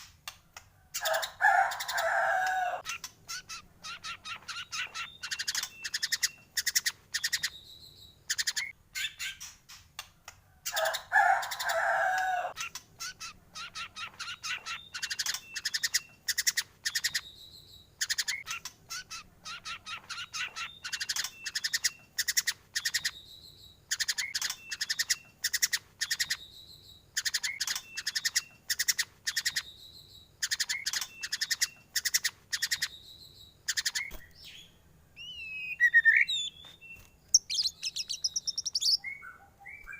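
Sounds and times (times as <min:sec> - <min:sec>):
bird singing: 0:00.8 - 0:09.5, 0:10.6 - 0:39.9.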